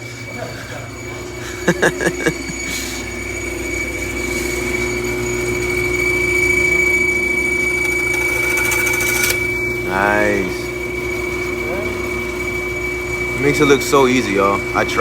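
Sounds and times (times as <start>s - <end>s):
bandsaw low hum: 0.0s - 15.0s
bandsaw high-pitched whistle: 0.8s - 15.0s.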